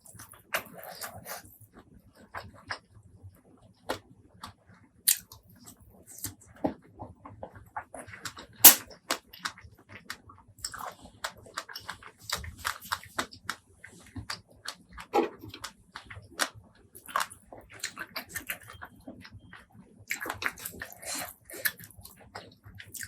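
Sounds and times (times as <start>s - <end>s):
chewing and crunching: 0.0s - 2.9s, 7.0s - 23.0s.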